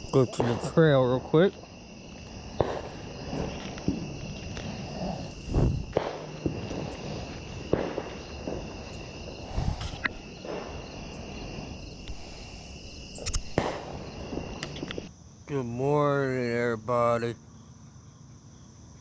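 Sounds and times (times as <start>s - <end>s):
night insects droning: 0.0s - 19.0s.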